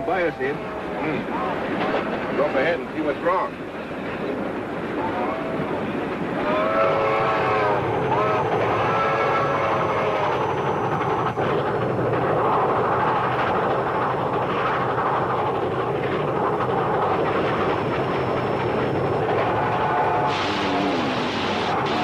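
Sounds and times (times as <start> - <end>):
train rolling: 0.0 - 22.0.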